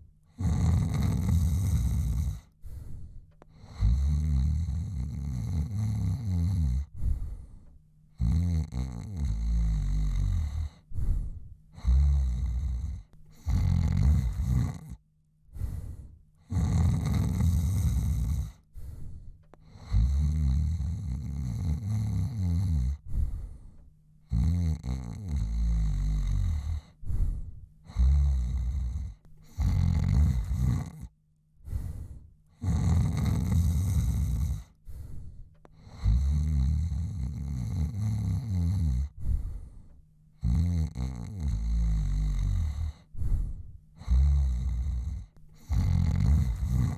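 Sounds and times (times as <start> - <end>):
man snoring: 0.3 - 2.9, 3.5 - 31.1, 31.7 - 39.8, 40.4 - 46.9.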